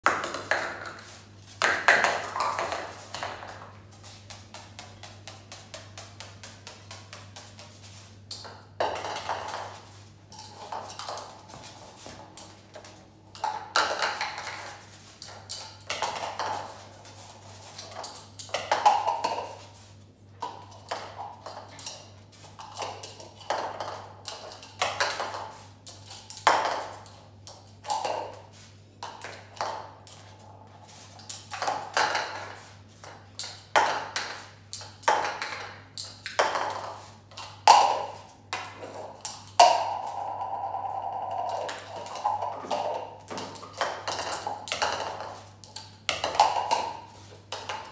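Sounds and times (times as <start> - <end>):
plastic cups clattering on tile: 0.0 - 47.9.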